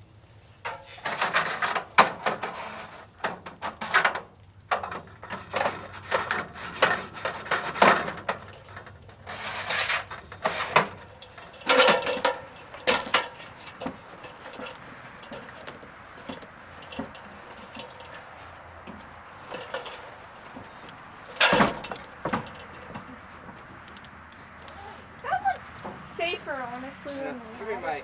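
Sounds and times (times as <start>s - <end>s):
scraping and rubbing on metal: 0.7s - 4.2s, 4.9s - 28.0s.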